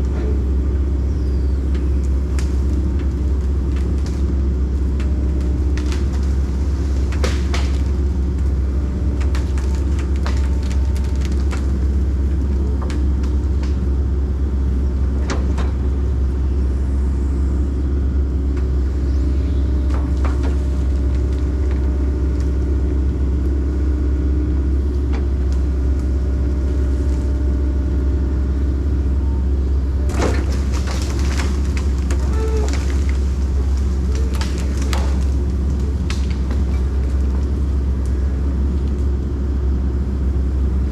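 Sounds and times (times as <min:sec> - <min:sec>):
excavator diesel engine rumbling: 0:00.0 - 0:40.9.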